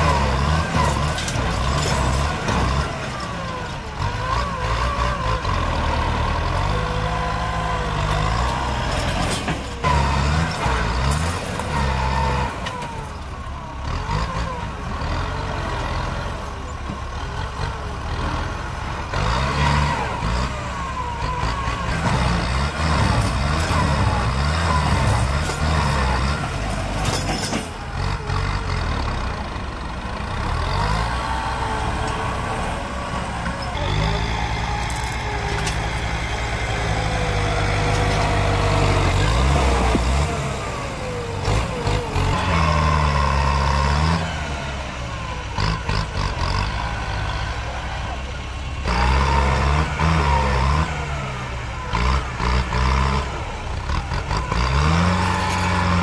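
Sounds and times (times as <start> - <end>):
tractor diesel engine labouring: 0.0 - 56.0.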